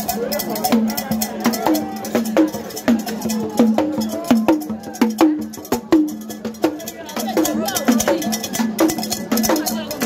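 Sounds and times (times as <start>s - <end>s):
drum beaten with a stick: 0.0s - 10.0s.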